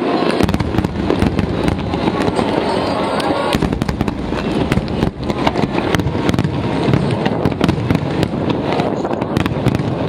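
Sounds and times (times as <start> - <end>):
fireworks deep booms: 0.0 - 10.0
fireworks sharp cracks: 0.0 - 10.0.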